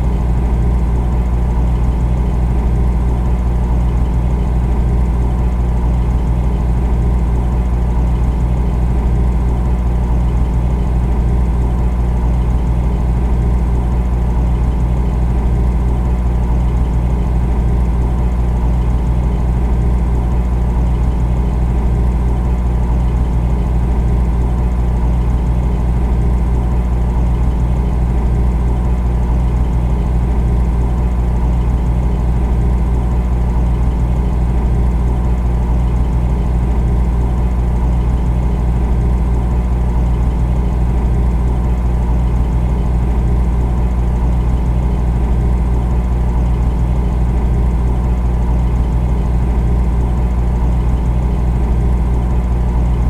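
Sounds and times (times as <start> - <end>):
refrigerator humming: 0.0 - 53.0.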